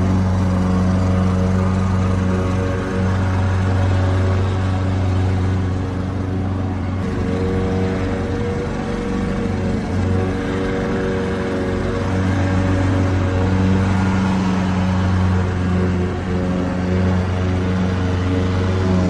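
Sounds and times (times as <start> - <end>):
lawnmower engine running: 0.0 - 19.0.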